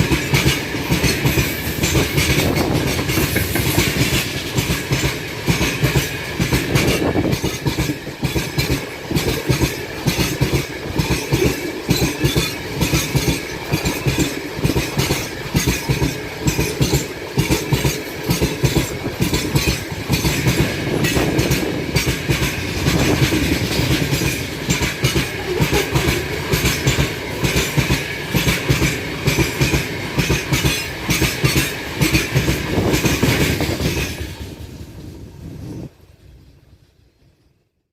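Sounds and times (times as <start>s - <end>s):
train wheels clattering over rail joints: 0.0s - 35.0s.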